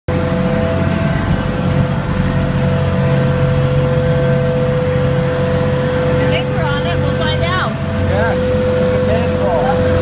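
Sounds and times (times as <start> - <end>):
ferry engine drone: 0.1 - 10.0.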